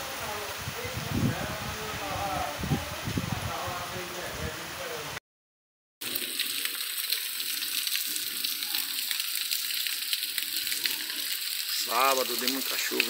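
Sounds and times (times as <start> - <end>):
rain falling steadily: 0.0 - 5.2, 6.0 - 13.0.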